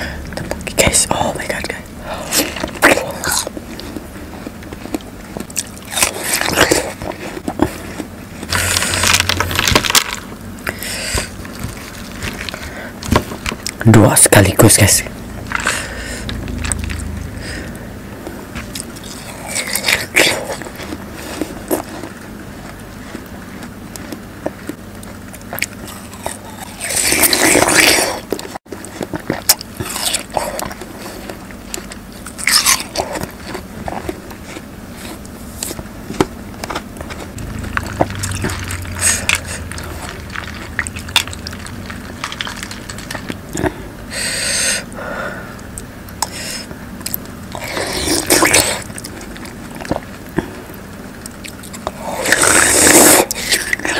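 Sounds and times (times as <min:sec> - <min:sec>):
biting and chewing watermelon: 0:00.0 - 0:53.9.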